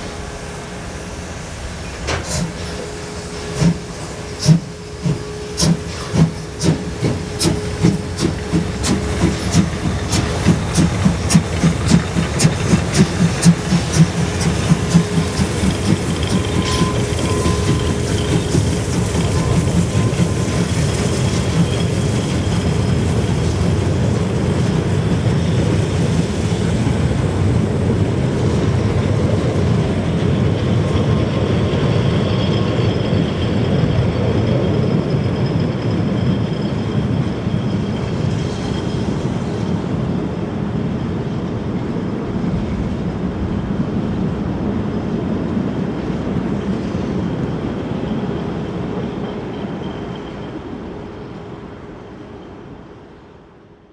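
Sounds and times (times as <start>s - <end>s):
train rumbling over rails: 0.0s - 53.9s.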